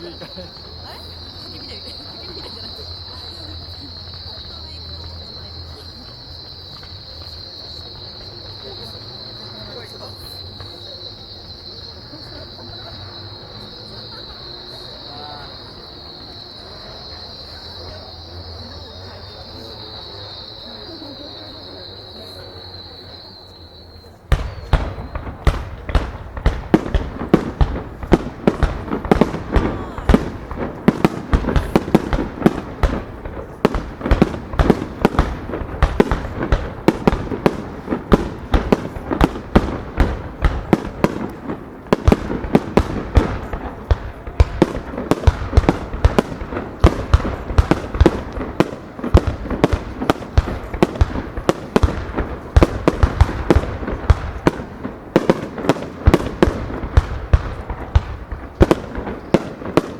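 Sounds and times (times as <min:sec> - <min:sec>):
fireworks bursting: 0:00.0 - 0:59.9
fireworks crackle and rumble: 0:00.0 - 0:59.9.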